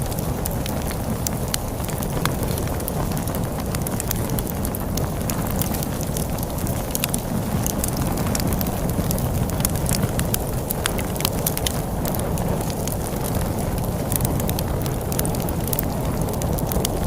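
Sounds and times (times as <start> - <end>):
storm wind rumbling: 0.0 - 17.0
wood fire crackling: 0.0 - 17.0.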